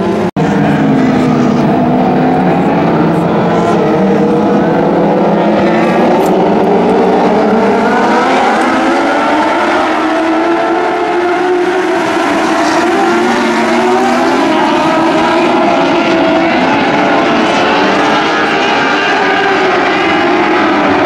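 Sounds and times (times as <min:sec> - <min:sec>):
race car engines running: 0:00.0 - 0:21.0.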